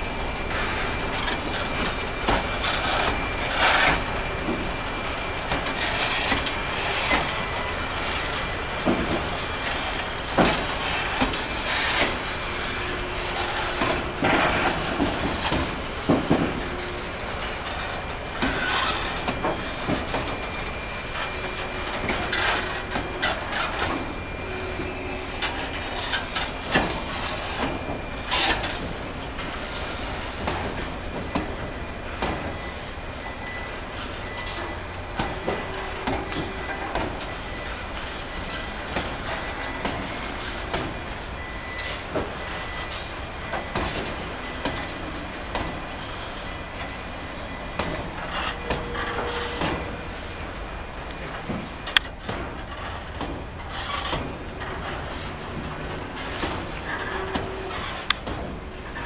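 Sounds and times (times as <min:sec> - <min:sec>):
wheels and couplings clanking: 0:00.1 - 0:59.0.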